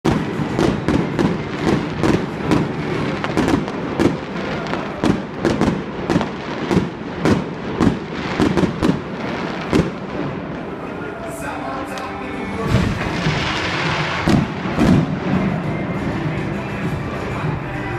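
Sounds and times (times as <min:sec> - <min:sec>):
fireworks bangs: 0:00.0 - 0:17.9.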